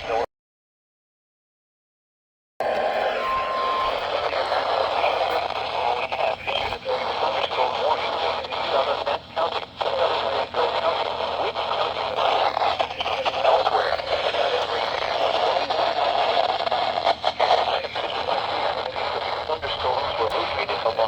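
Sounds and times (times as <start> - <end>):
radio static hiss: 0.0 - 0.3, 2.6 - 21.0.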